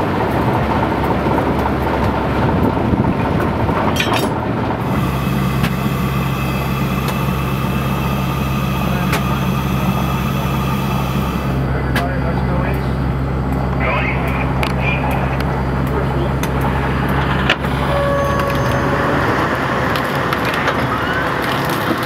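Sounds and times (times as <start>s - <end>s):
heavy engine running: 0.0s - 22.0s.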